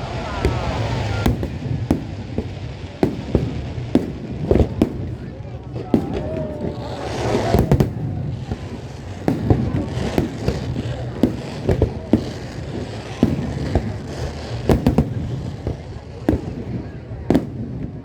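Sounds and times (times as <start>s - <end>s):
fireworks booms and bangs: 0.0s - 18.0s.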